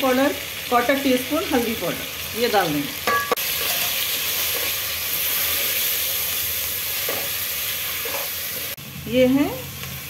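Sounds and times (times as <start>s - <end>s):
masala sizzling in hot oil: 0.0s - 10.0s.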